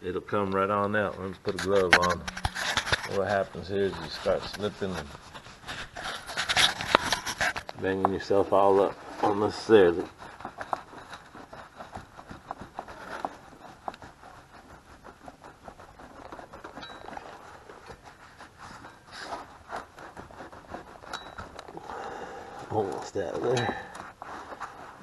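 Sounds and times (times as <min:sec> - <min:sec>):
metal and rubber scraping: 0:00.1 - 0:25.0.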